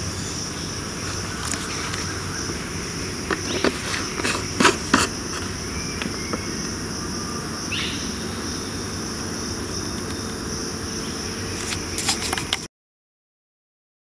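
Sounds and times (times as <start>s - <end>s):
high-pitched insect chorus: 0.0s - 12.7s.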